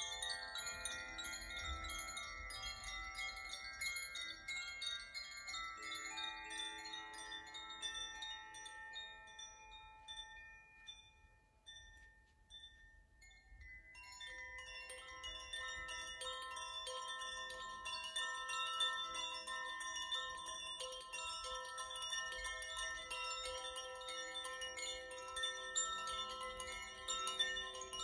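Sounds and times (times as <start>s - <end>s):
wind chimes tinkling: 0.0s - 28.0s.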